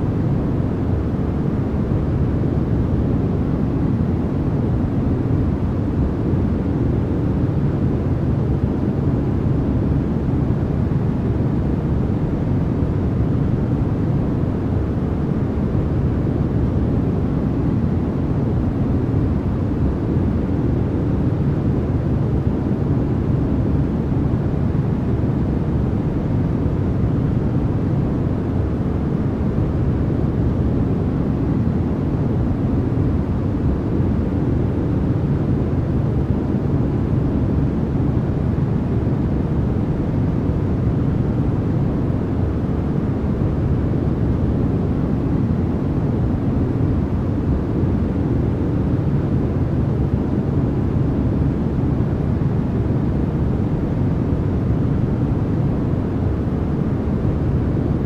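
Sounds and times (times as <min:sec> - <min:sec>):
white noise rumble: 0:00.0 - 0:58.0.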